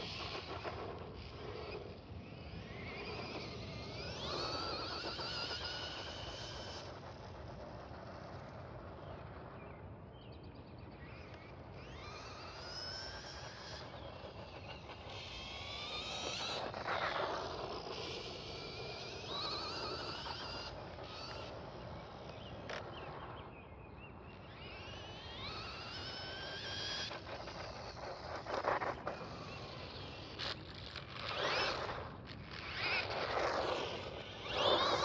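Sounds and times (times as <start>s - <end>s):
rc car electric motor whining: 0.0s - 35.0s.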